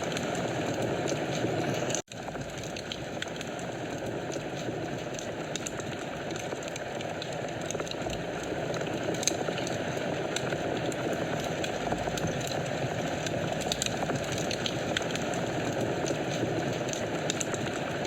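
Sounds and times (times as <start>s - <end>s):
fire crackling and popping: 0.0s - 18.0s
flames rushing: 0.0s - 18.0s.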